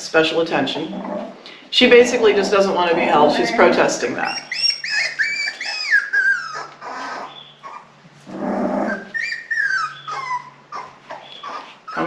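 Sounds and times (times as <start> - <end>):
puppy whining: 2.0 - 12.0.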